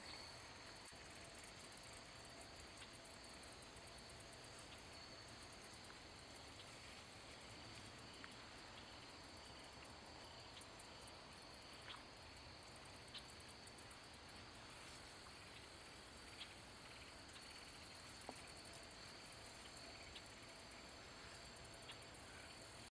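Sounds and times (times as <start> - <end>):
faint chirps and clicks: 0.0 - 22.9
insects trilling: 0.0 - 22.9.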